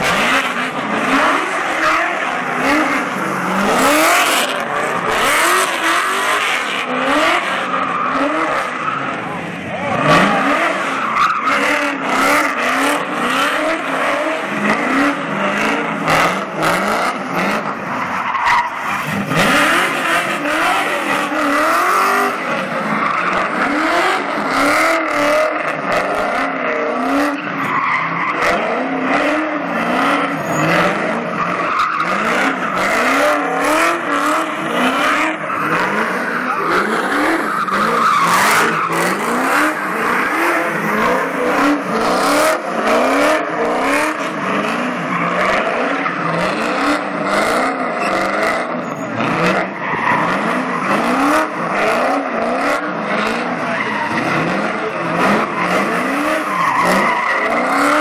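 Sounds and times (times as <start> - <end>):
car engine revving hard: 0.0 - 18.1, 18.7 - 58.0.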